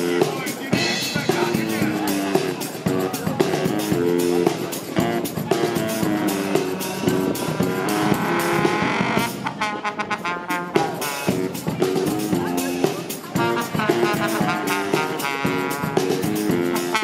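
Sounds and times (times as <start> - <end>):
music with held notes: 0.0 - 17.0.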